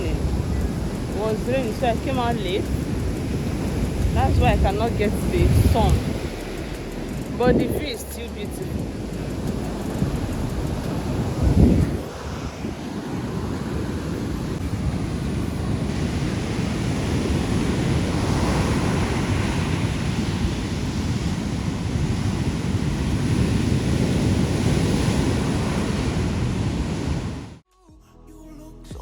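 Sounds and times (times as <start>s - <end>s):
ocean surf washing onto beach: 0.0s - 27.6s
wind buffeting microphone: 0.0s - 27.6s.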